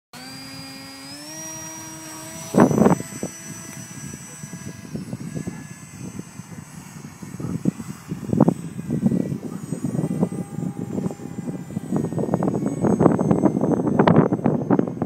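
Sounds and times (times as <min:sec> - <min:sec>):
model plane motor whine: 0:00.2 - 0:15.0
wind noise on microphone: 0:00.2 - 0:15.0.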